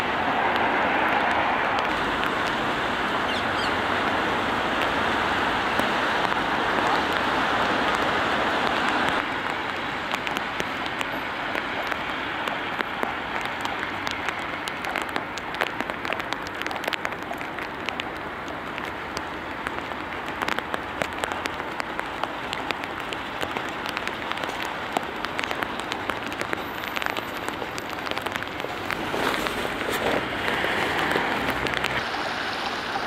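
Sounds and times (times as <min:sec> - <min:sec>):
rain hissing: 0:00.0 - 0:33.0.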